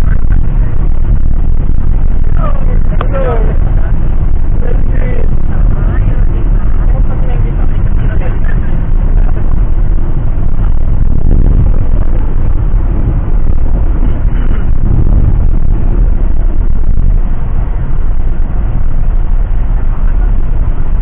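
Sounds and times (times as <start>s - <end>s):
vehicle rumbling: 0.0s - 21.0s.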